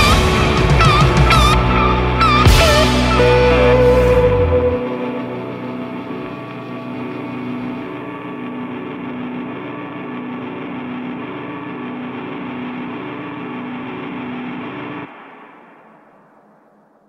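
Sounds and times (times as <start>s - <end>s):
drone of held tones: 0.0s - 17.0s
low pulsing tone: 0.0s - 17.0s.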